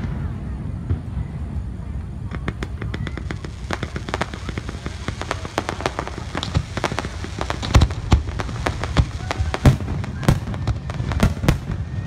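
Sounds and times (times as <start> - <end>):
fireworks booms: 0.0 - 12.0
fireworks crackling pops: 0.0 - 12.0.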